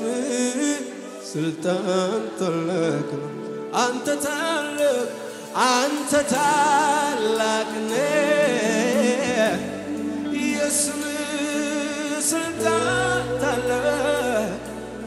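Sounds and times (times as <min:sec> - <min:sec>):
person singing with vibrato: 0:00.0 - 0:15.0
sustained instrumental chords: 0:00.0 - 0:15.0.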